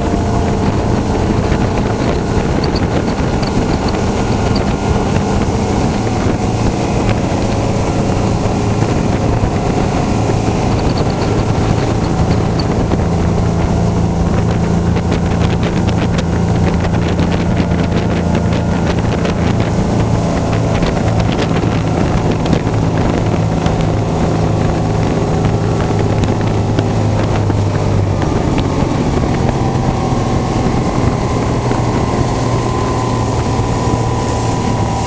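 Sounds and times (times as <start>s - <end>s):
outboard motor running: 0.0s - 35.0s
water rushing past hull: 0.0s - 35.0s
wind on microphone: 0.0s - 35.0s.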